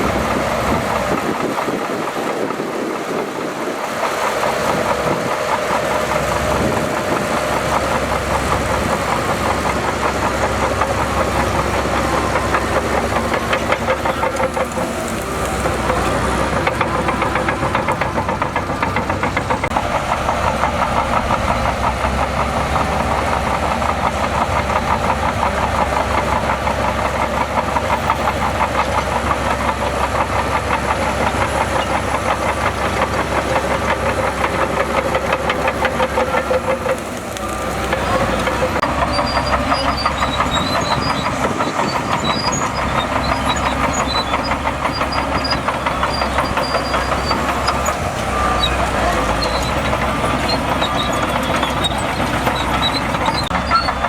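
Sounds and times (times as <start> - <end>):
heavy diesel engine clattering: 0.0 - 54.0.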